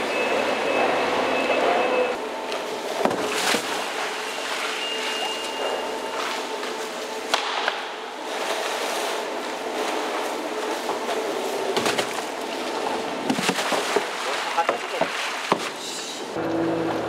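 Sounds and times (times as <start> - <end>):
crane machinery humming: 0.0 - 15.0, 15.8 - 17.0.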